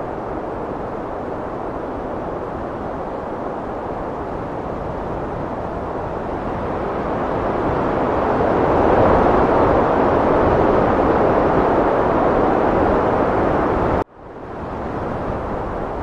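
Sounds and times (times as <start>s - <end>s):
heavy wind blowing: 0.0s - 16.0s.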